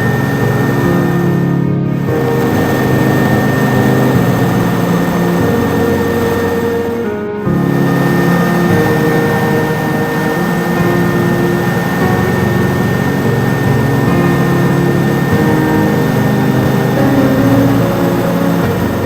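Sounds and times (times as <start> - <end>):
helicopter engines and rotor: 0.0 - 19.0.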